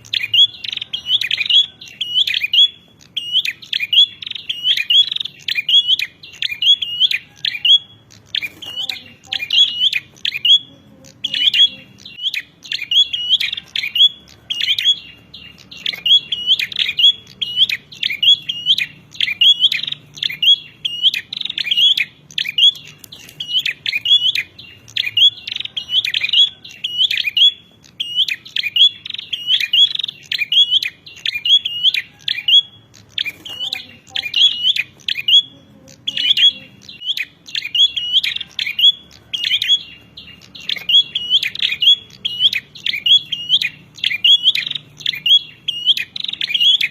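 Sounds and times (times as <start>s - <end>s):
bird giving sharp high chirps: 0.0s - 46.9s.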